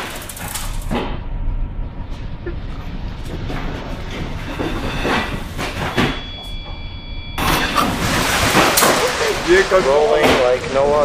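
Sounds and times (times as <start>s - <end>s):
low steady ship rumble: 0.0s - 11.0s
thin high whine: 0.0s - 11.0s.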